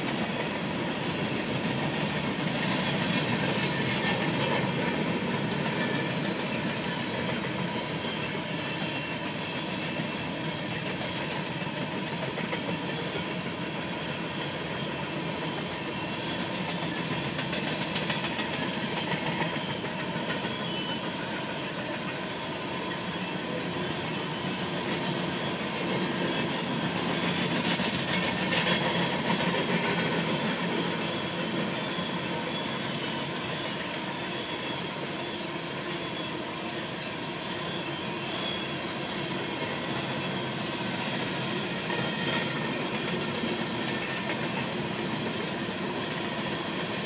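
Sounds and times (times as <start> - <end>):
train wheels rumbling on bridge: 0.0 - 47.0.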